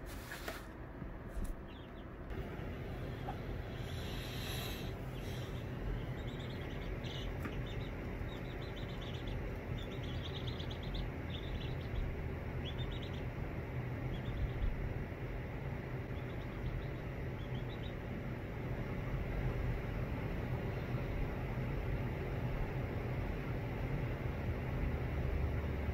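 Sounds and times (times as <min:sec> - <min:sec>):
steady low hum: 0:00.0 - 0:25.9
baby chicks peeping: 0:01.4 - 0:25.9.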